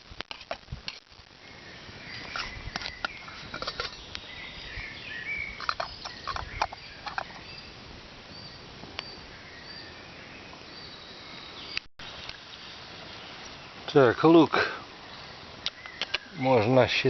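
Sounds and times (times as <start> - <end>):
small birds chirping: 1.3 - 17.0.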